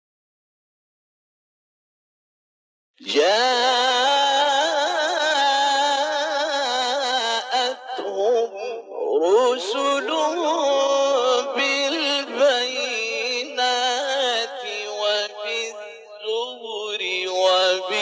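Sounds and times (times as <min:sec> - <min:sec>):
man chanting: 0:03.0 - 0:18.0.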